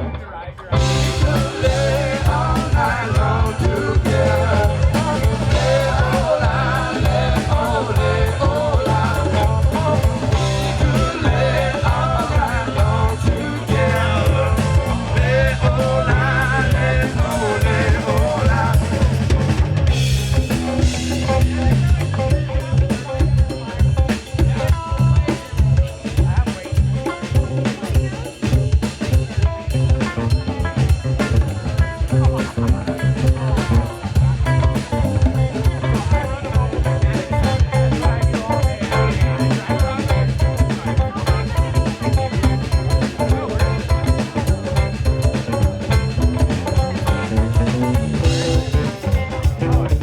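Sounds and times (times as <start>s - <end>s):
bass guitar: 0.0s - 50.0s
electric guitar: 0.0s - 50.0s
drum kit: 0.8s - 50.0s.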